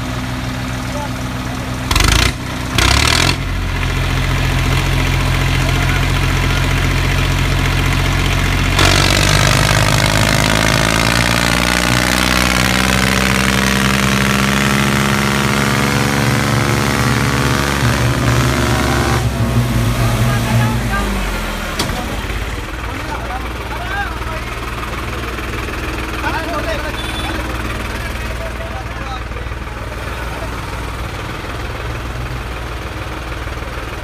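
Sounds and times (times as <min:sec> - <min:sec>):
tractor diesel engines under load: 0:00.0 - 0:34.0.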